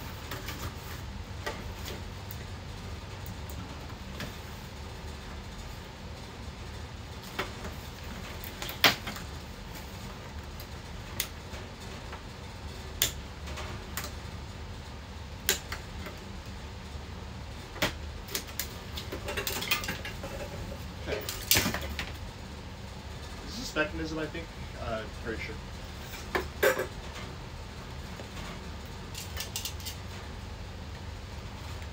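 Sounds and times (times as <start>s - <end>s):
rustling and clatter: 0.0s - 14.7s, 15.8s - 22.4s, 25.7s - 31.9s
low steady hum: 0.0s - 31.9s.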